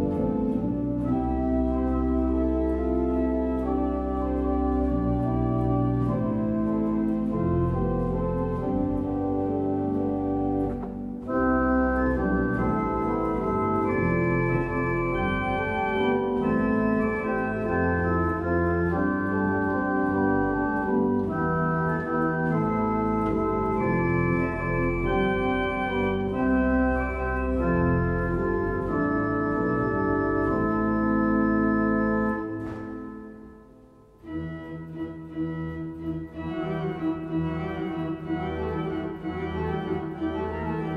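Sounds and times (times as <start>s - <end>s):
pipe organ playing chords: 0.0s - 40.9s.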